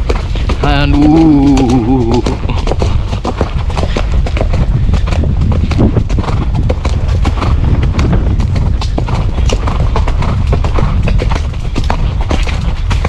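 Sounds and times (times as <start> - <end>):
horse hoofbeats on dirt track: 0.0 - 13.0
steady low rumble: 0.0 - 13.0.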